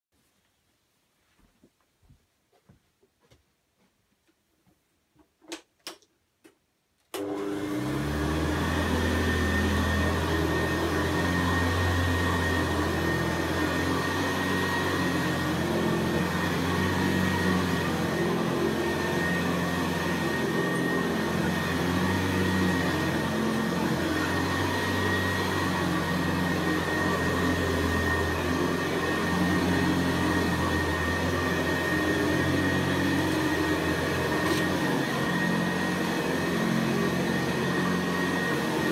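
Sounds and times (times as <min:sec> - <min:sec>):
vacuum cleaner motor whining: 0:07.2 - 0:38.9.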